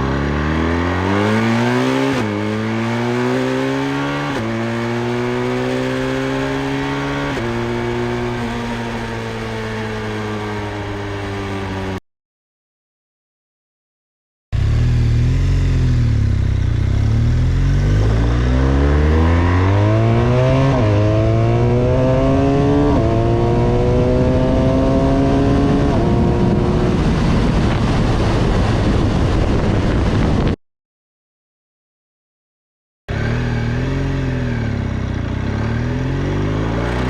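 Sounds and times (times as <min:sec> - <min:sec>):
motorcycle engine accelerating: 0:00.0 - 0:12.0, 0:14.5 - 0:30.6, 0:33.1 - 0:37.0.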